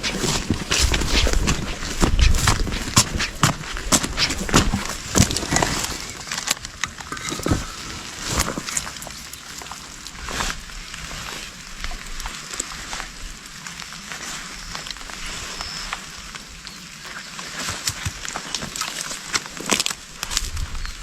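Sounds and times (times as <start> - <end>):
leaves and twigs crackling underfoot: 0.0 - 21.0.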